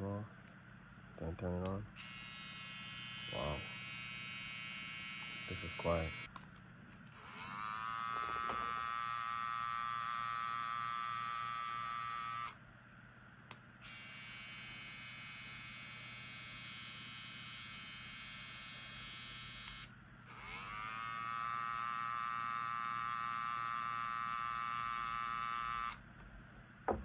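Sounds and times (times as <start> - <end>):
hair trimmers buzzing: 2.0 - 6.3, 7.1 - 12.6, 13.8 - 26.0.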